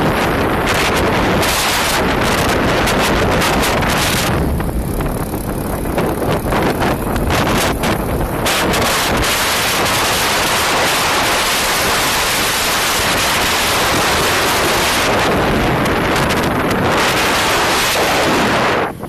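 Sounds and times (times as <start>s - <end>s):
wind rush on microphone: 0.0s - 19.0s.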